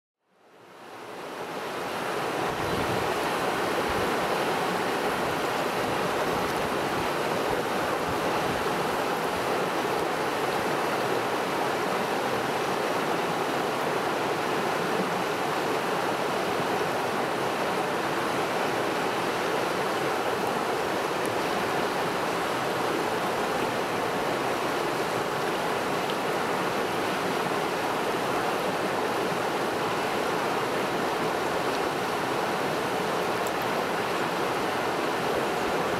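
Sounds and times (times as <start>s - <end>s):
river rushing over rocks: 0.6s - 35.9s.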